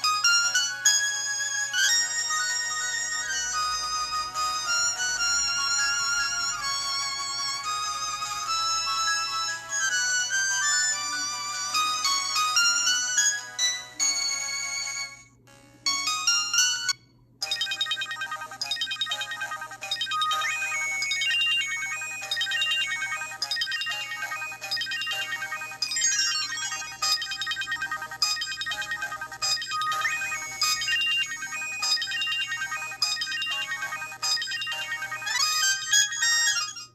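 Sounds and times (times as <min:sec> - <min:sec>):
mobile phone ringtone melody: 0:00.0 - 0:36.9.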